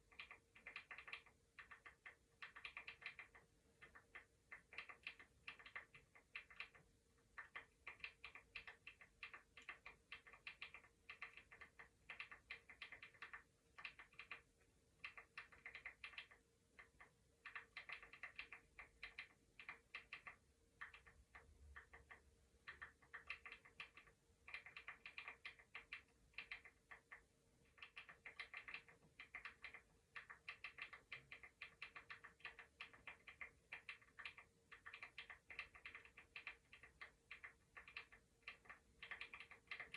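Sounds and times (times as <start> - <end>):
computer keyboard typing: 0.0 - 39.9
faint steady hum: 0.0 - 39.9.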